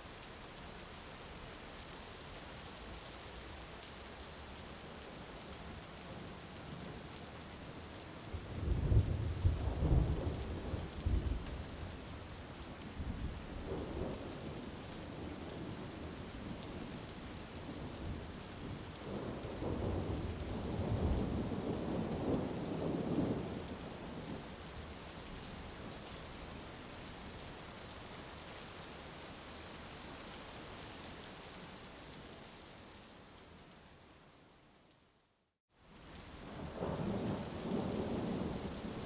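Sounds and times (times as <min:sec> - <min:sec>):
heavy rain: 0:00.0 - 0:34.4, 0:35.7 - 0:39.0.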